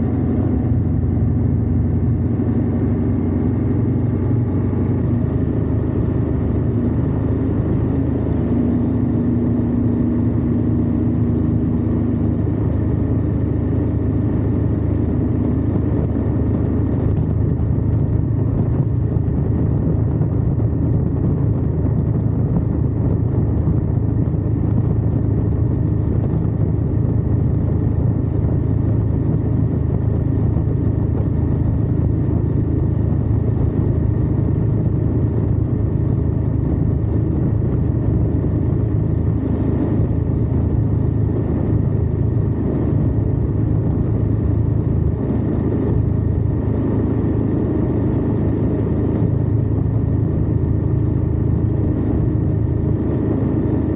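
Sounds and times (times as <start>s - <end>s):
motorcycle engine cruising: 0.0s - 53.9s
road noise: 0.0s - 53.9s
wind noise: 0.0s - 53.9s.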